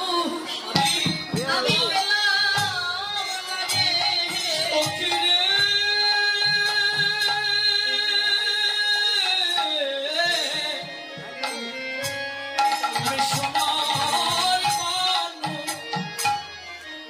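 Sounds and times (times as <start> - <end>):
devotional melody: 0.0 - 17.0.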